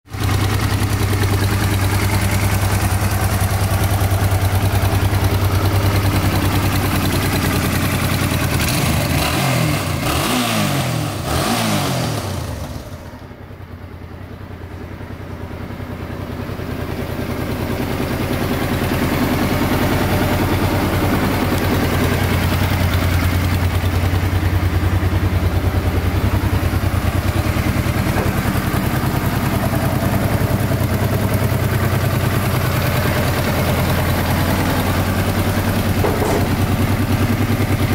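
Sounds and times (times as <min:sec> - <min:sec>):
motorcycle engine idling: 0:00.1 - 0:37.9.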